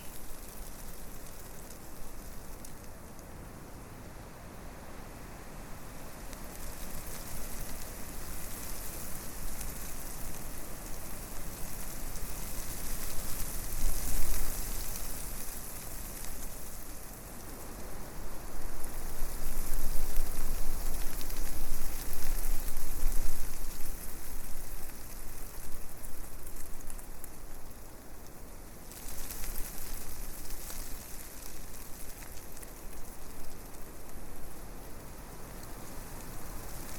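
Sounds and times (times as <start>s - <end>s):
leaves rustling: 0.0s - 3.6s, 5.0s - 36.9s
wind gusting through trees: 0.0s - 36.9s.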